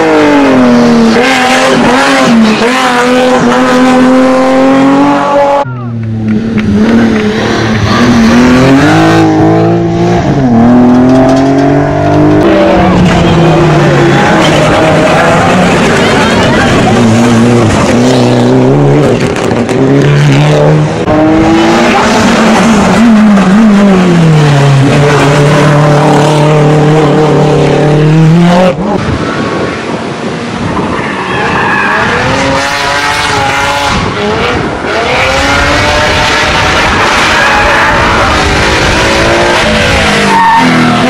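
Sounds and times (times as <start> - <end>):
rally car engines revving: 0.0 - 41.0.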